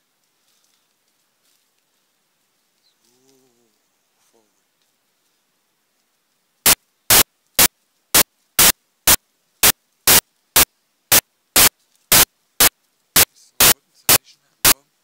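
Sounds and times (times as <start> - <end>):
bursts of static hiss: 2.8 - 15.0.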